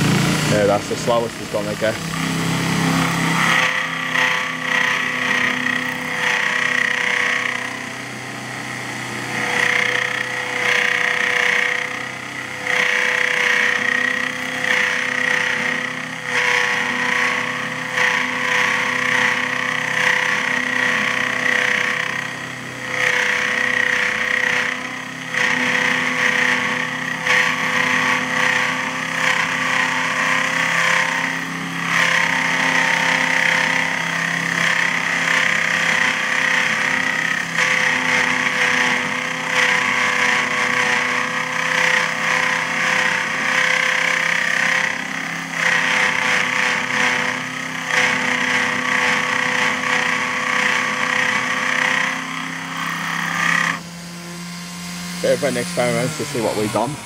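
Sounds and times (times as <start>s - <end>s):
end mill cutting metal: 0.0s - 57.0s
machine chatter: 0.0s - 57.0s
motor humming: 0.0s - 57.0s.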